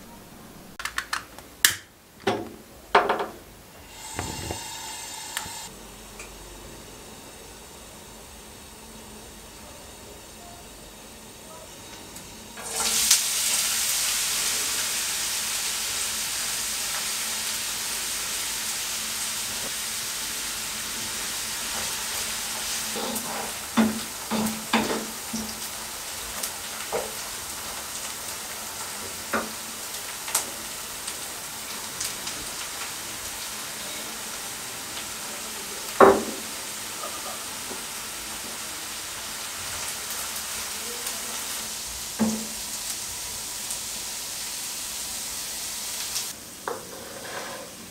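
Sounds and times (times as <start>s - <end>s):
onions sizzling in oil: 3.7s - 47.9s.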